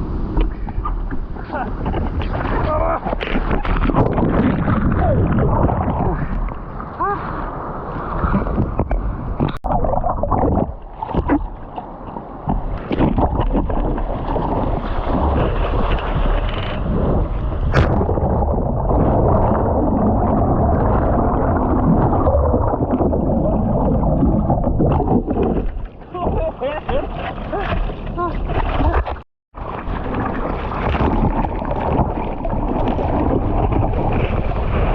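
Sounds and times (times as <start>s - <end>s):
sea water splashing: 0.0s - 34.9s.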